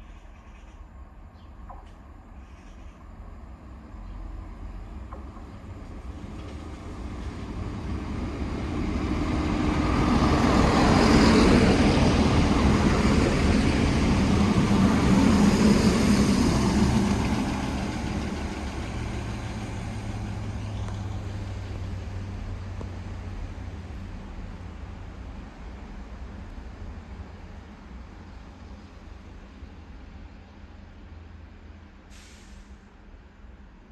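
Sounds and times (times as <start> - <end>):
train passing by: 0.0 - 33.9.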